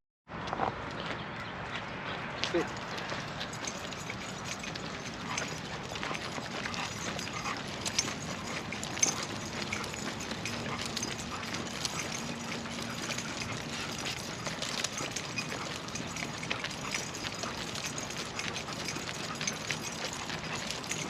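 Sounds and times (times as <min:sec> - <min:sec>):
footsteps and dog paws clicking: 0:00.4 - 0:21.0.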